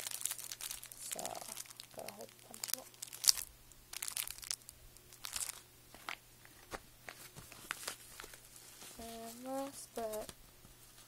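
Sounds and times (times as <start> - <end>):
plastic bags crinkling: 0.0 - 10.4.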